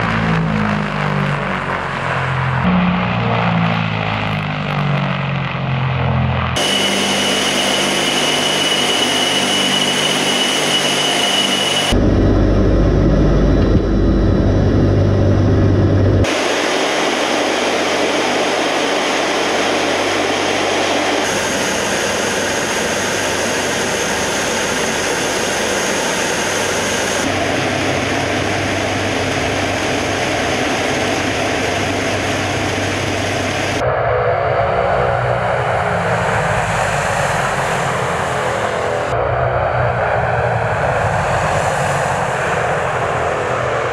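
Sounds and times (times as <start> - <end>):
propeller aircraft engines droning: 0.0 - 43.9.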